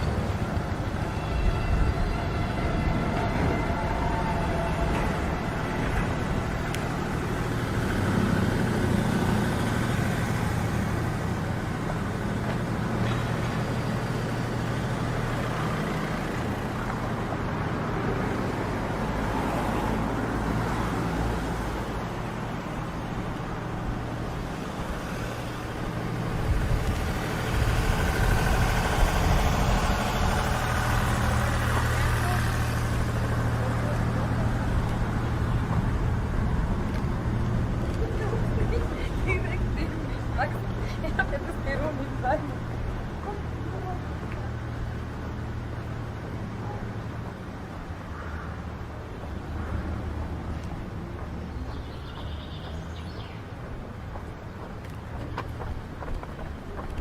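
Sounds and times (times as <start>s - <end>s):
street traffic engine hum: 0.0s - 57.0s.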